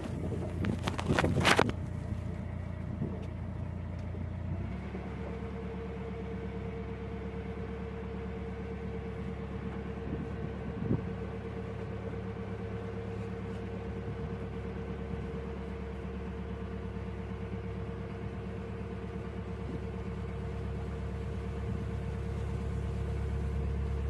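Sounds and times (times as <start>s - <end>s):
diesel engine low hum: 0.0s - 24.0s.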